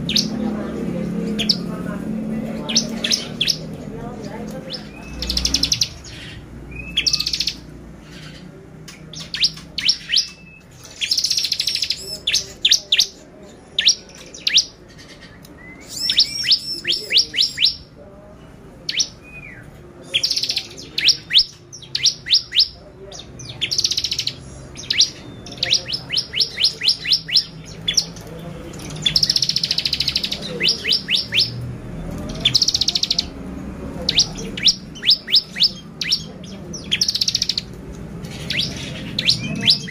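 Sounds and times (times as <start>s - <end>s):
bird singing sharp high notes: 4.7s - 17.9s, 18.9s - 28.2s, 28.8s - 33.4s, 34.0s - 37.7s, 38.3s - 39.9s.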